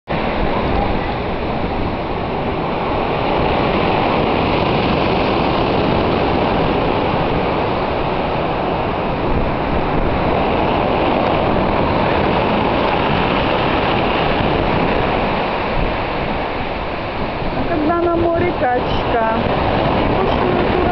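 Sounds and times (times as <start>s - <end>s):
surf breaking on pebble beach: 0.1s - 20.9s
wind rumbling on microphone: 0.1s - 20.9s.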